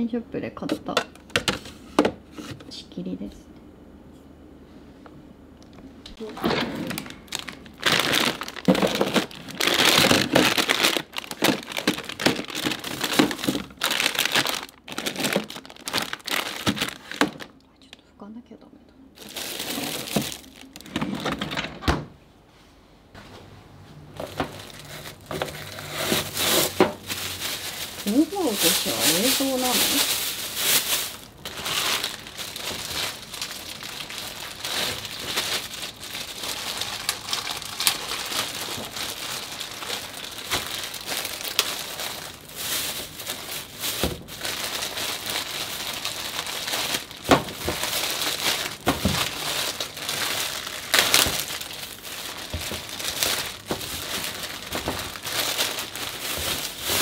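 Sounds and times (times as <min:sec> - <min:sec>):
plastic bags rustling and crinkling: 0:06.2 - 0:17.6, 0:19.1 - 0:21.7, 0:24.2 - 0:57.0.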